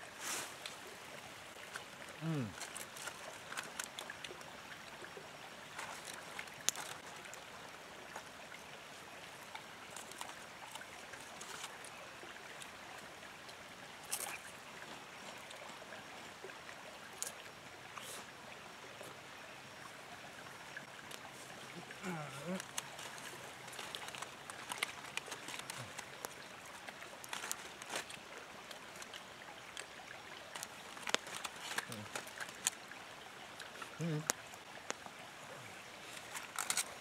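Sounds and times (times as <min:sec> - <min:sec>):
small rustles: 0:00.0 - 0:04.5, 0:05.6 - 0:13.0, 0:14.0 - 0:16.3, 0:20.7 - 0:37.0
creek water running: 0:00.0 - 0:37.0.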